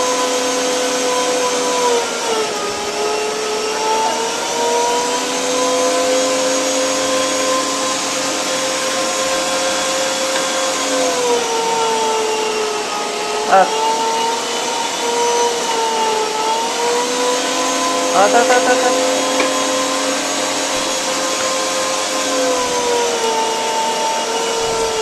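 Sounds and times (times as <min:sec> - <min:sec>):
electric meat grinder motor whine: 0:00.0 - 0:25.0.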